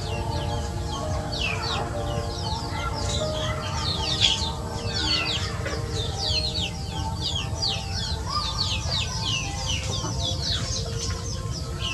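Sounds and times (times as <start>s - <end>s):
chickens clucking: 0.0s - 11.9s
chicks peeping: 0.0s - 11.9s.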